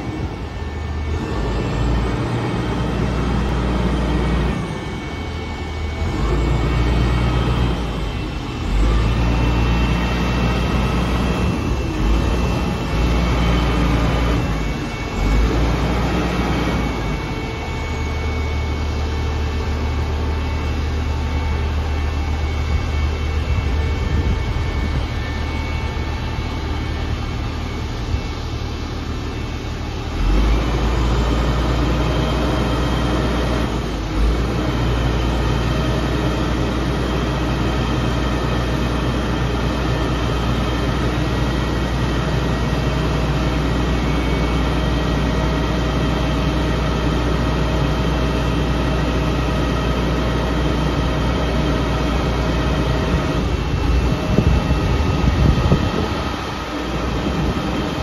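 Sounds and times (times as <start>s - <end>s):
pump engine and hydraulics droning: 0.0s - 58.0s.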